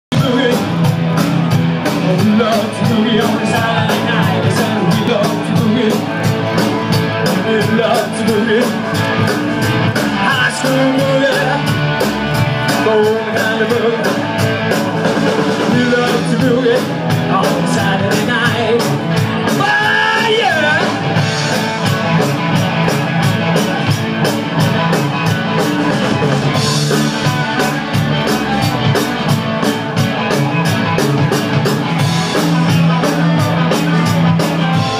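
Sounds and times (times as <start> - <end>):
rock and roll band playing: 0.1 - 34.9.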